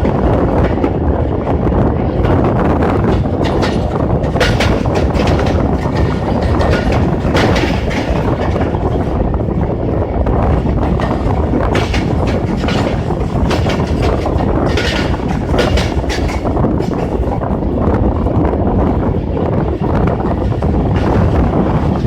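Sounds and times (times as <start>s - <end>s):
clacks over rail joints: 0.0s - 22.0s
train wheels rumbling on rails: 0.0s - 22.0s.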